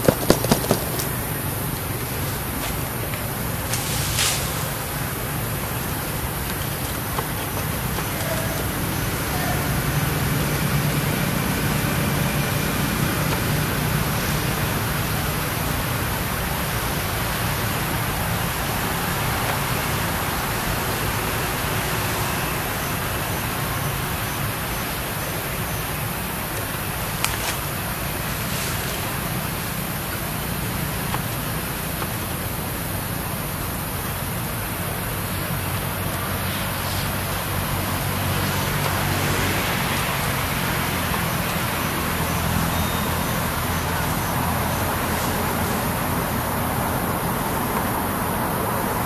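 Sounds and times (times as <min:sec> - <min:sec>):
even hiss: 0:00.0 - 0:49.0.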